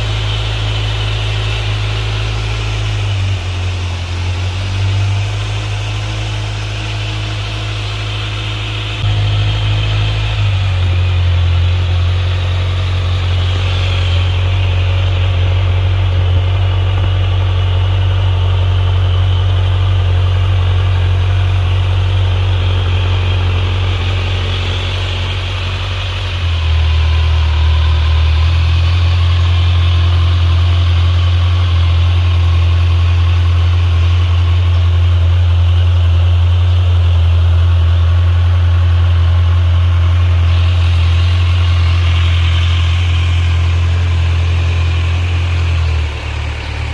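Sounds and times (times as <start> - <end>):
motorcycle engine idling: 0.0 - 46.9.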